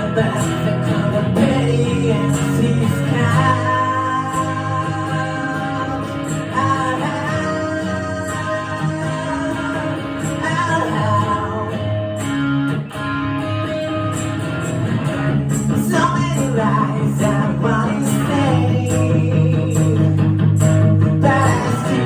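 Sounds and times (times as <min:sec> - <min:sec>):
man singing: 0:00.0 - 0:12.2, 0:15.6 - 0:22.0
guitar strummed chords: 0:00.0 - 0:22.0.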